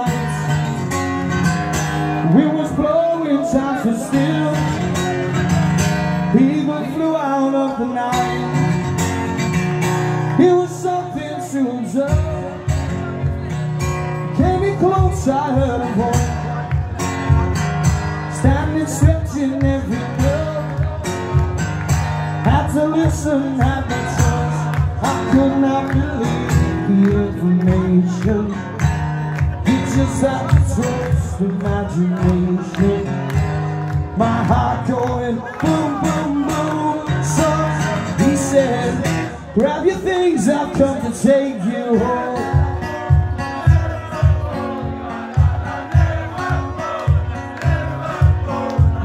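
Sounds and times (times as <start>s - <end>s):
man singing: 0.0s - 1.0s, 1.6s - 9.0s, 10.2s - 17.6s, 18.2s - 21.6s, 22.4s - 49.0s
acoustic guitar strumming: 0.0s - 49.0s.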